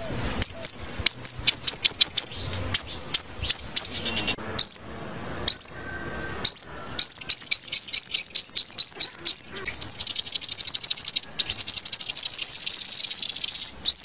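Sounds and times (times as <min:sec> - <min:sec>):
bird chirping high and sharp: 0:00.0 - 0:14.0.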